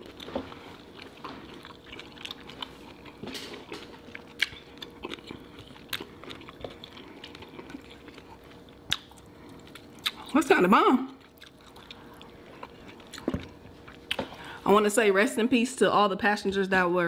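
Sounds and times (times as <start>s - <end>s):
close chewing and mouth sounds: 0.0s - 14.5s.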